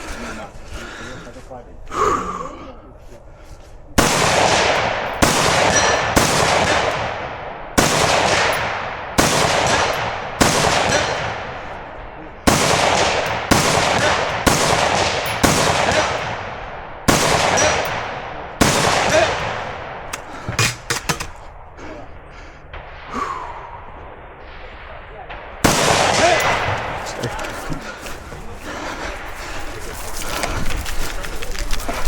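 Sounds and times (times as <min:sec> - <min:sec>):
gunshots with echoing decay: 0:03.9 - 0:32.0.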